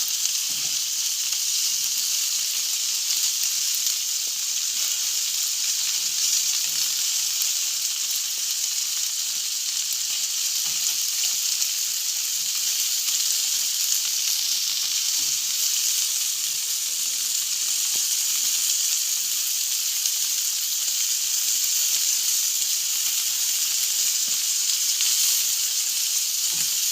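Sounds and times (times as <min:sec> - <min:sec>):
food sizzling on a grill: 0:00.0 - 0:26.9.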